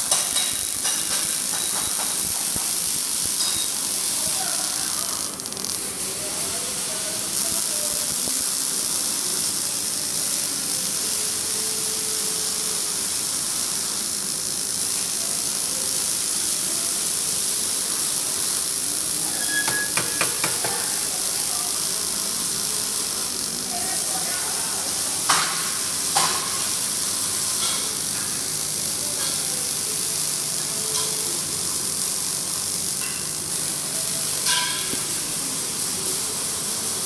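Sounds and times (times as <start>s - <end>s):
welding arc crackling and hissing: 0.0s - 37.0s.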